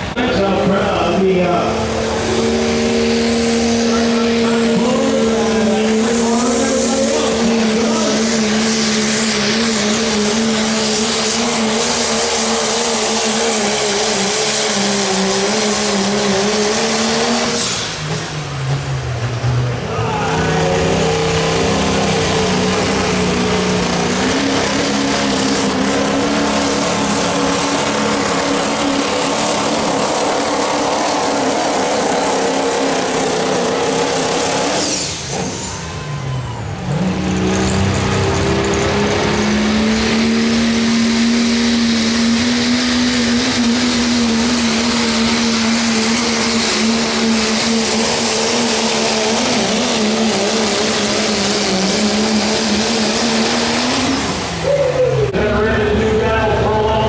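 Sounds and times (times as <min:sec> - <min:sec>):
diesel engine revving hard: 0:00.0 - 0:57.0.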